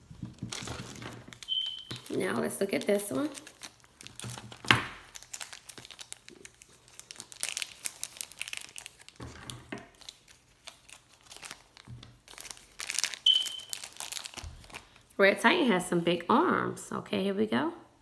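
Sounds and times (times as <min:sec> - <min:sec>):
plastic wrapper crinkling: 0:00.0 - 0:15.2.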